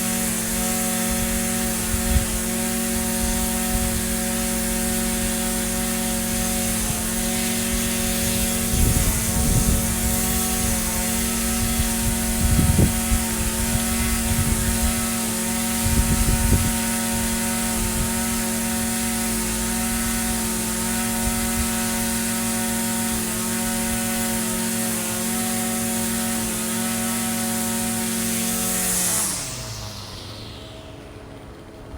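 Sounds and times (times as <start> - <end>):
string trimmer engine running: 0.0 - 31.9.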